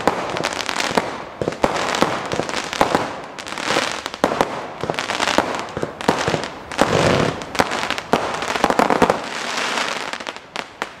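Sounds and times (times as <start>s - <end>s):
crackling hiss of bursting stars: 0.0s - 11.0s
firework bangs: 0.0s - 11.0s.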